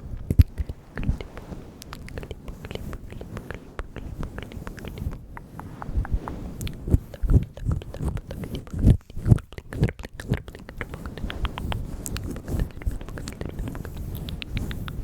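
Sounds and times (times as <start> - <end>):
wet mouth pops: 0.2 - 1.2, 1.8 - 15.0
lip smacks: 0.2 - 15.0
wet tongue clicks: 0.2 - 15.0.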